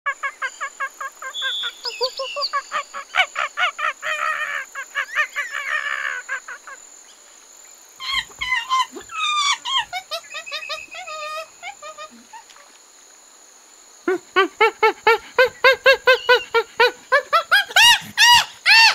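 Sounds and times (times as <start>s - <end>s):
monkeys calling: 0.1s - 6.8s, 8.0s - 12.8s, 14.1s - 18.9s.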